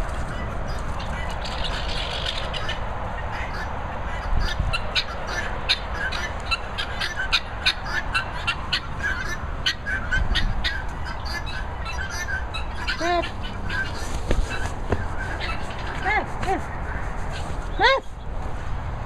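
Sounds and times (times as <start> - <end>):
birds chirping: 0.0 - 18.4.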